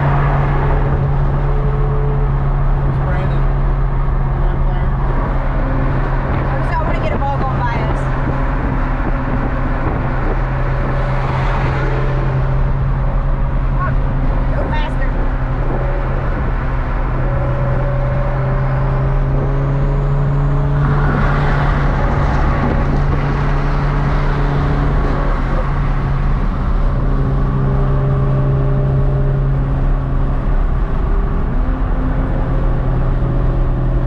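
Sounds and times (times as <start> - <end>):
car engine droning: 0.0 - 34.0
road and wind noise: 0.0 - 34.0.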